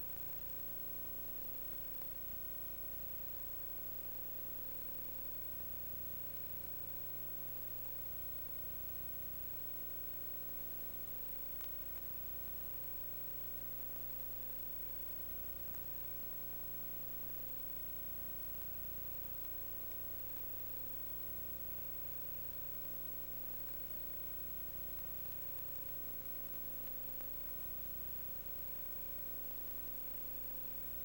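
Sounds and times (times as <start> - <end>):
electrical hum: 0.0 - 31.0
faint steady tone: 0.0 - 31.0
steady hiss: 0.0 - 31.0.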